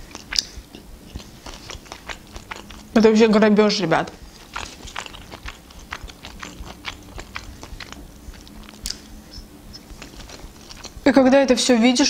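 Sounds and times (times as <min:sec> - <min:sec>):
wet mouth clicks: 0:00.0 - 0:03.0, 0:04.1 - 0:11.0
person chewing food: 0:00.0 - 0:03.2, 0:04.1 - 0:11.1.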